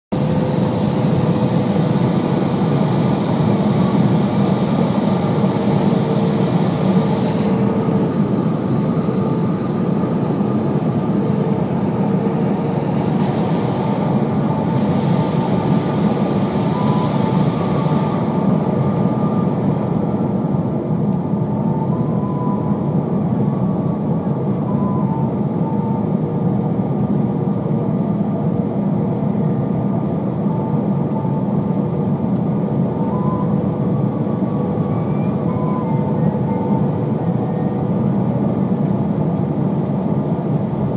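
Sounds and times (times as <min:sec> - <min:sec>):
aircraft cabin rumble: 0:00.1 - 0:40.9
faint engine tones: 0:00.2 - 0:40.9.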